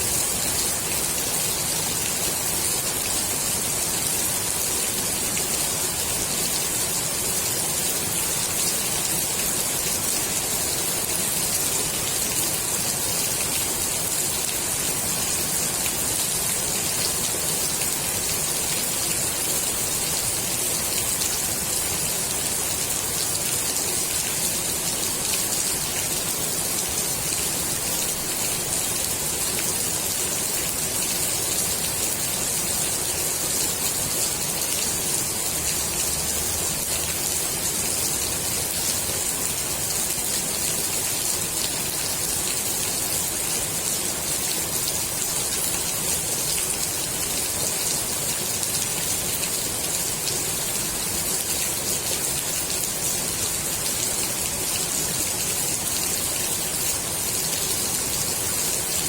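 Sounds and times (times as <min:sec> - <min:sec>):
rain falling on pool water: 0:00.0 - 0:59.0.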